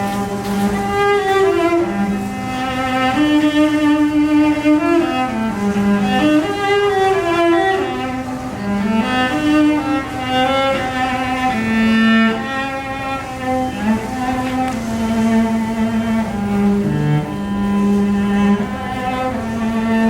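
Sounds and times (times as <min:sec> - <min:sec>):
bowed strings with cello melody: 0:00.0 - 0:20.0.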